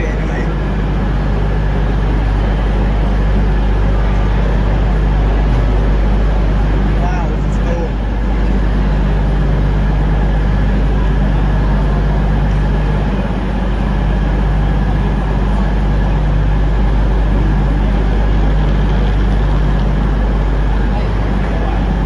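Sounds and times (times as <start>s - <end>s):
train diesel engines idling: 0.0s - 22.0s.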